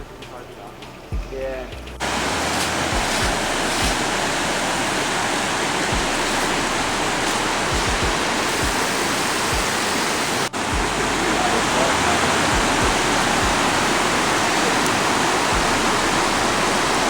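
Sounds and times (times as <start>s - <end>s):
low rumble: 0.0s - 17.0s
loud rushing noise: 2.0s - 17.0s.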